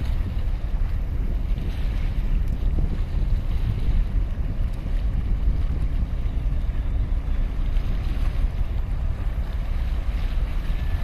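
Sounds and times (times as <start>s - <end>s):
small waves lapping on concrete: 0.0s - 11.0s
wind buffeting microphone: 0.0s - 11.0s.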